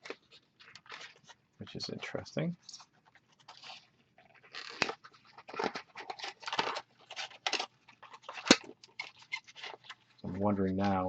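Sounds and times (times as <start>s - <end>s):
packaging rustling and scraping: 0.0s - 1.4s, 2.7s - 10.2s.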